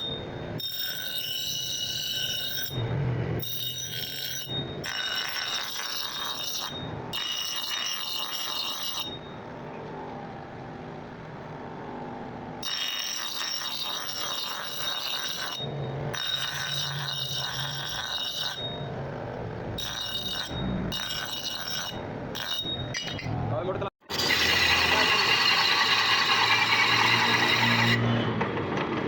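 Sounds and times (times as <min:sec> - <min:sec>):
high ringing metal tones: 0:00.0 - 0:09.6, 0:12.6 - 0:23.4, 0:24.0 - 0:28.2.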